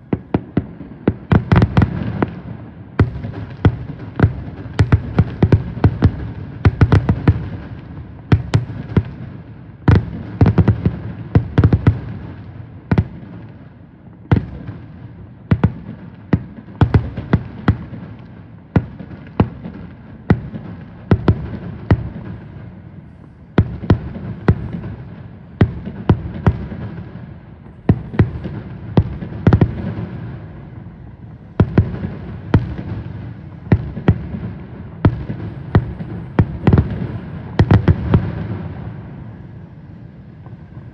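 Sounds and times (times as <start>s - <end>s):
fireworks bangs: 0.0s - 40.9s.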